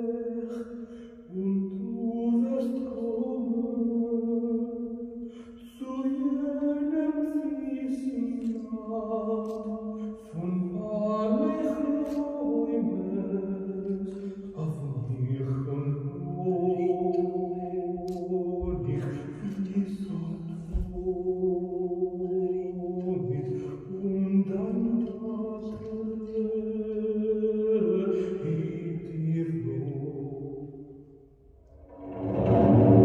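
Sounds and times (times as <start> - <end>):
slow chant-like singing: 0.0 - 30.8.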